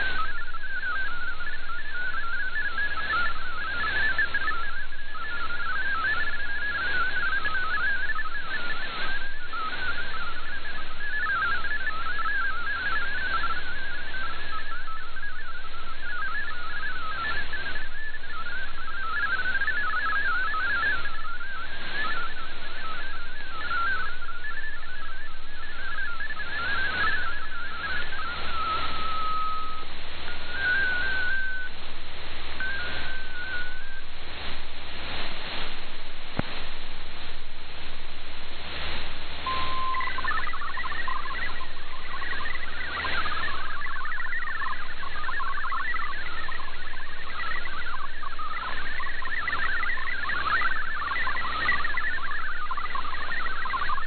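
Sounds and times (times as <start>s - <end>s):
brief tone bursts: 0.0s - 31.8s, 32.5s - 34.2s, 39.0s - 54.0s
fast warbling data tones: 0.0s - 35.8s, 38.6s - 54.0s
radio hiss and static: 0.0s - 54.0s
steady radio tone: 0.0s - 54.0s.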